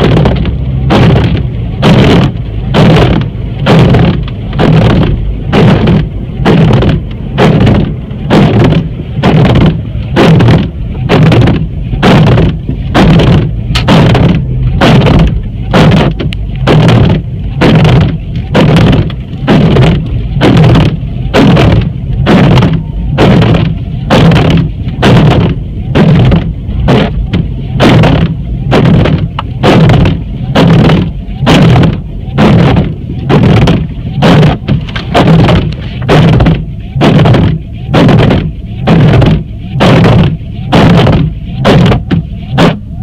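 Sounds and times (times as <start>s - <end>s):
wipers scraping dry windshield: 0.0s - 43.0s.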